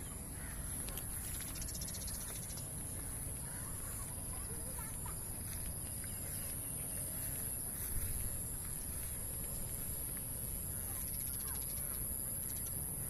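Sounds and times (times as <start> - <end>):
constant high hiss: 0.0 - 13.0.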